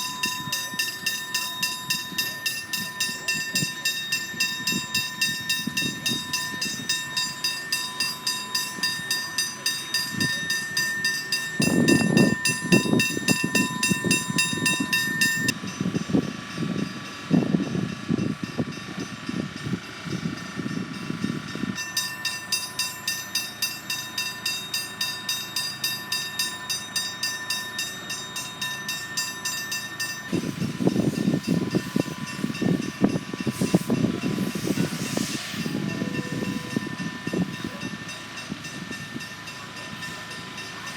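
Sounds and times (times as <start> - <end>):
level crossing warning bell: 0.0 - 40.9
train rumble: 0.0 - 40.9.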